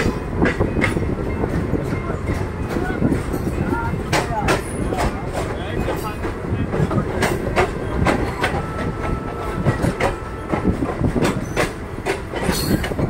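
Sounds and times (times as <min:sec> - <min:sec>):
rail joint clacks: 0:00.0 - 0:13.0
train wheels rumbling on rail: 0:00.0 - 0:13.0.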